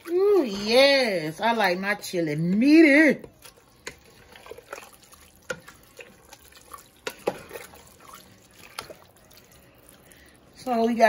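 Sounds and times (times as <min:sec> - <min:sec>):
wet squelching of stirred chili: 0:00.0 - 0:11.0.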